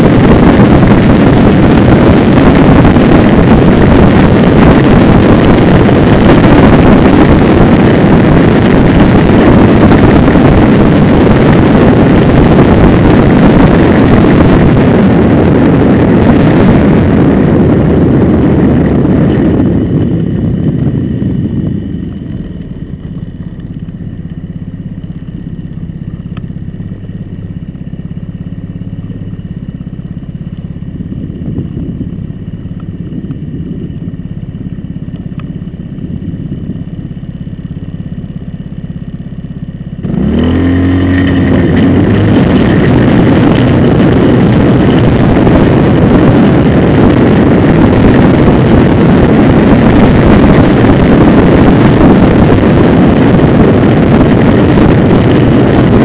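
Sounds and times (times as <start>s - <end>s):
motorcycle engine running: 0.0s - 56.0s
wind rush on microphone: 0.0s - 56.0s.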